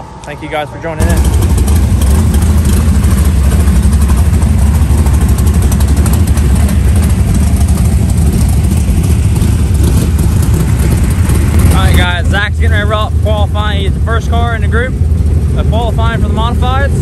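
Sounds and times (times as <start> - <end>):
race car engine idling: 0.0 - 17.0.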